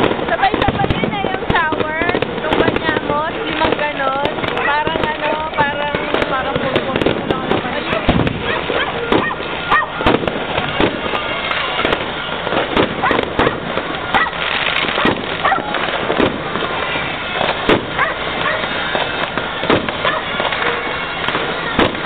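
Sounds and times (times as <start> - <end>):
firework bangs: 0.0 - 22.0
fireworks crackling and fizzing: 0.0 - 22.0.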